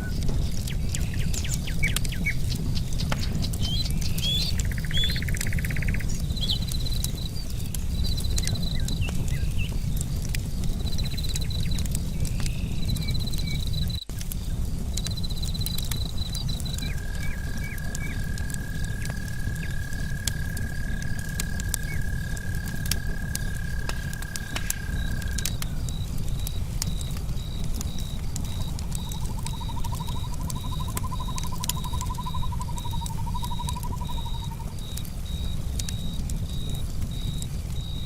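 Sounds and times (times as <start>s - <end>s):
campfire crackling and popping: 0.0s - 38.0s.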